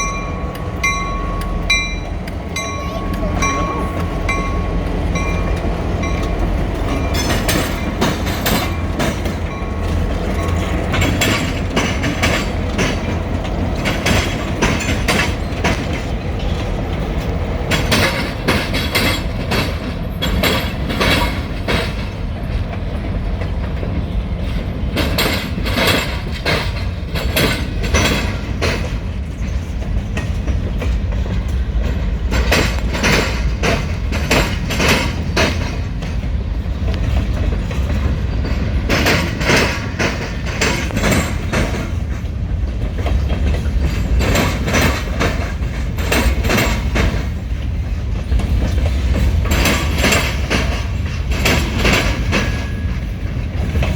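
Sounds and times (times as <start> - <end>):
freight train rumbling: 0.0 - 53.9
train wheels clacking: 0.0 - 53.9.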